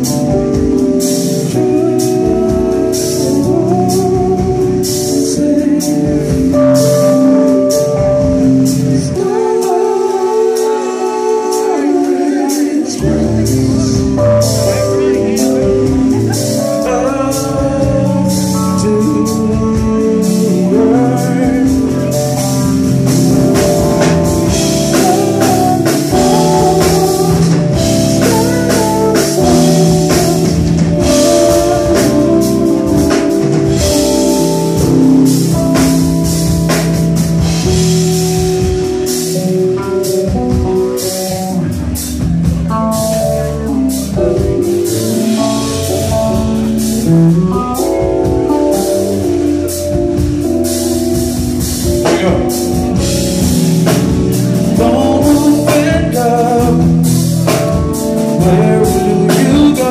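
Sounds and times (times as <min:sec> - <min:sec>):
drum kit: 0:00.0 - 0:59.9
electric bass: 0:00.0 - 0:59.9
keyboards: 0:00.0 - 0:59.9.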